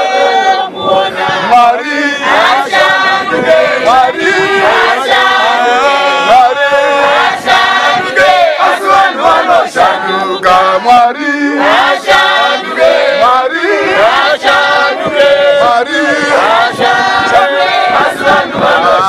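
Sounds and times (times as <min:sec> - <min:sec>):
church choir singing: 0:00.0 - 0:19.0.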